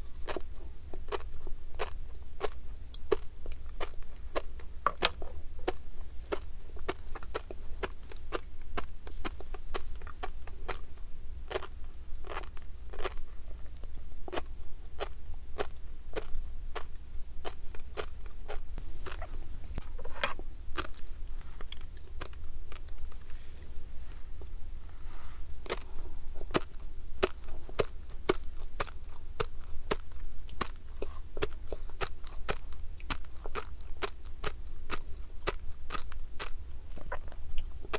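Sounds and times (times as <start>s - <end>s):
chewing fish roe crunching: 0.1s - 24.6s, 25.6s - 37.9s.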